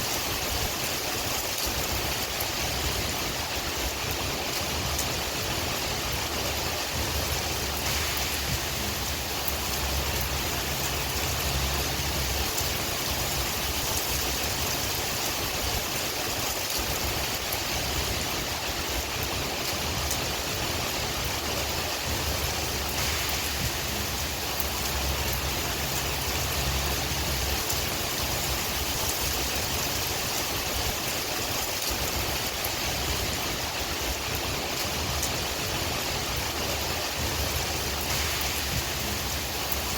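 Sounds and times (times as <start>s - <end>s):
low wind rumble: 0.0s - 39.9s
rain falling: 0.0s - 39.9s.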